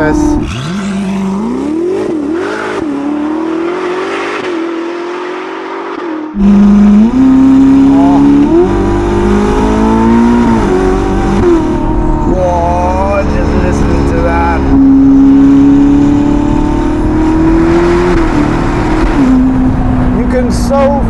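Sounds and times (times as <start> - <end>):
sports car engine revving: 0.0 - 20.6.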